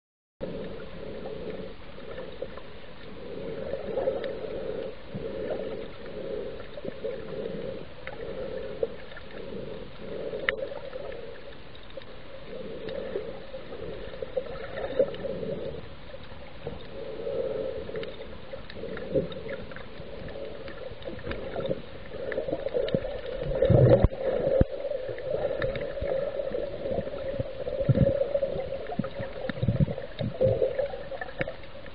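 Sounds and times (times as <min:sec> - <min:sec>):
underwater murmur of moving water: 0:00.4 - 0:31.9.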